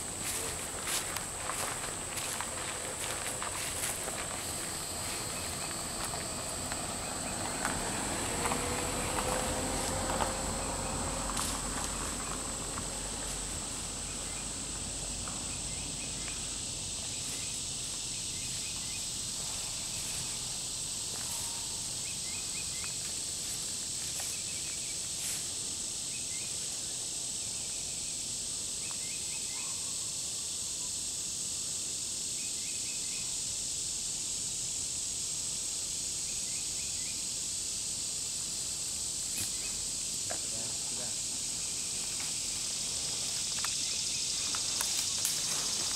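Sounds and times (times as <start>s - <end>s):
insect chirps: 0.0s - 45.9s
insect chorus drone: 0.0s - 45.9s.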